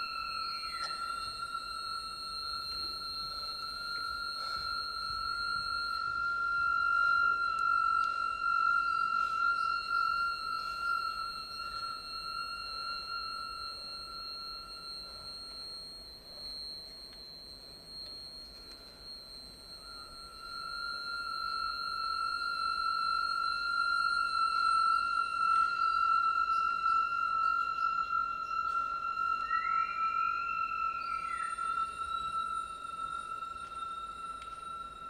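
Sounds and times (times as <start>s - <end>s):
sustained high ringing tones: 0.0s - 35.0s.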